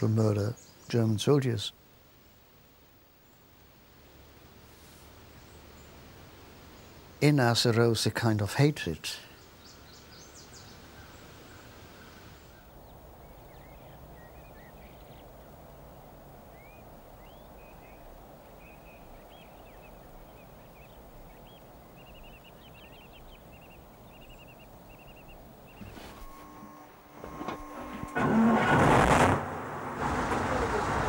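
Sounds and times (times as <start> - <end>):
small birds chirping: 0.0 - 7.9, 8.7 - 28.2
low background hiss: 0.0 - 28.2.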